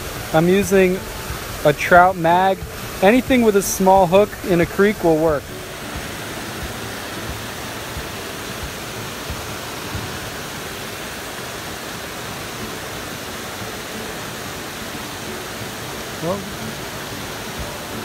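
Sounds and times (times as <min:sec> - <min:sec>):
creek water running over rocks: 0:00.0 - 0:18.0.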